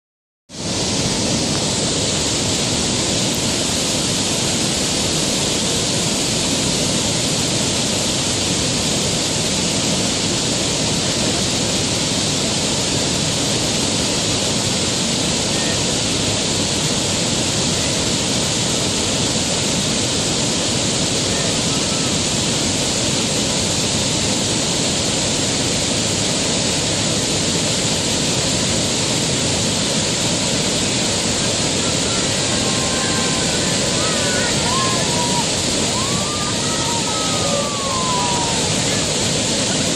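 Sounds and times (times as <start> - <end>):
rushing river water: 0.5 - 39.9.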